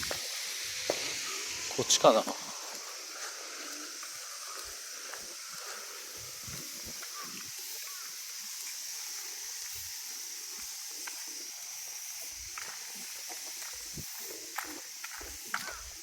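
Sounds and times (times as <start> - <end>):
high-pitched insect chorus: 0.0 - 16.0
rustling through undergrowth: 0.0 - 16.0.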